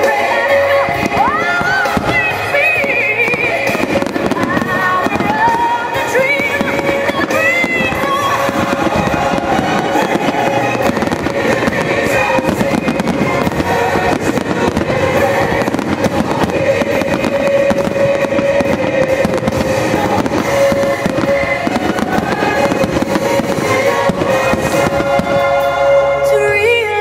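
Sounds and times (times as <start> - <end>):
fireworks bursting: 0.0 - 27.0
music with long held notes: 0.0 - 27.0.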